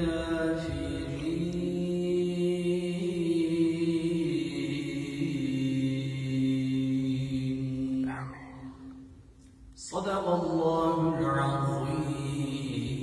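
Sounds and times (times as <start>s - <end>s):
man reciting melodically: 0.0s - 9.0s, 9.7s - 13.0s.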